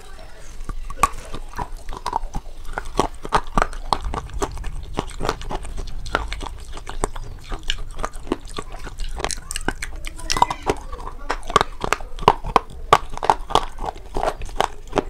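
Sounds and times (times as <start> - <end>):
crunching and chewing chocolate: 0.0 - 15.0.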